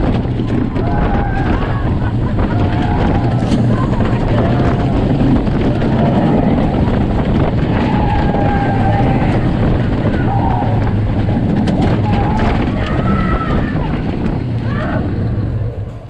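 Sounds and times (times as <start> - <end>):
roller coaster train rumble: 0.0 - 16.0
wind rushing over microphone: 0.0 - 16.0
riders shouting: 0.4 - 15.3.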